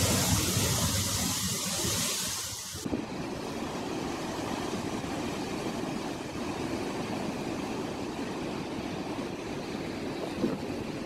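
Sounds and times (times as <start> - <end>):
storm waves breaking: 0.0 - 11.0.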